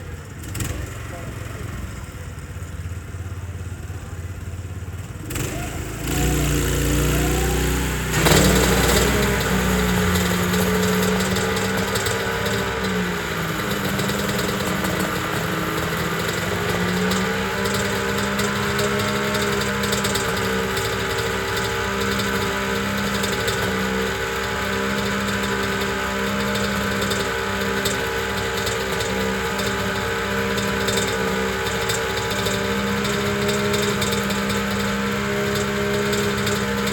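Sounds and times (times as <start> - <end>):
race engine starting and idling: 0.0 - 36.9.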